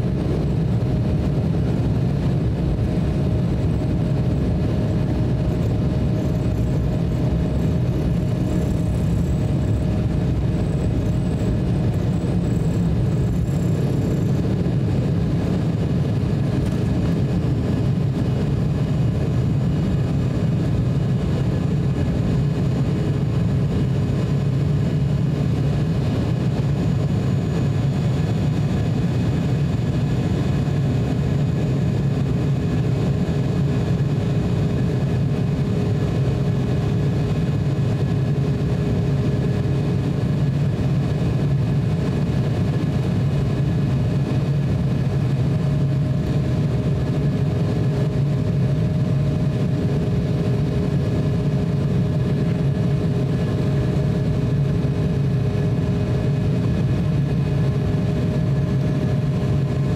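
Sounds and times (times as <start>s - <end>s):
airplane cabin drone: 0.0s - 59.9s
faint steady whine tones: 0.0s - 59.9s.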